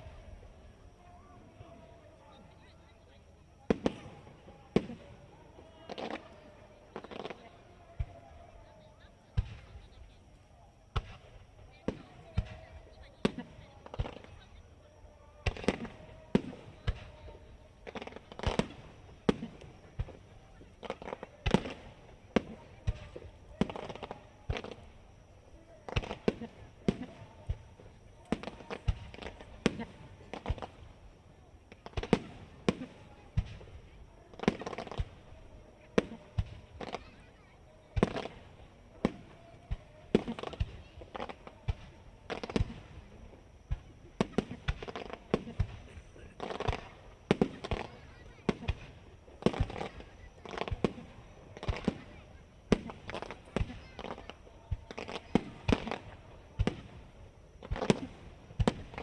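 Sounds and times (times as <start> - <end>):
fireworks bursting with bangs: 0.0 - 59.0
fireworks crackling: 0.0 - 59.0.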